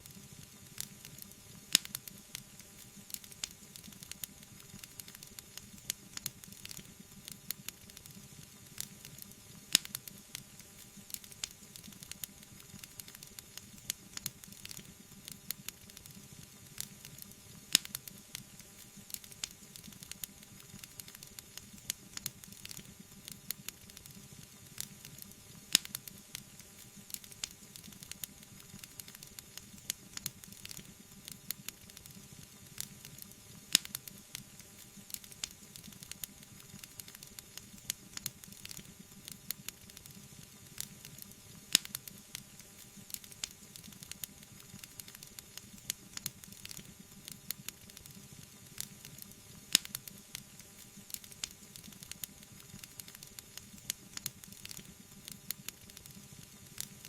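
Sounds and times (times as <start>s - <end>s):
loud snaps of fire: 0.0s - 57.0s
wood fire crackling: 0.0s - 57.0s.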